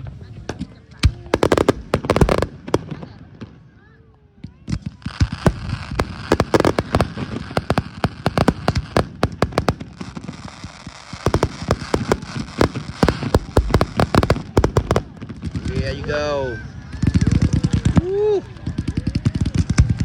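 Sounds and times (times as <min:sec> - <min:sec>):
fireworks bangs and pops: 0:00.0 - 0:03.7, 0:04.4 - 0:20.0
steady crackle: 0:00.0 - 0:20.0.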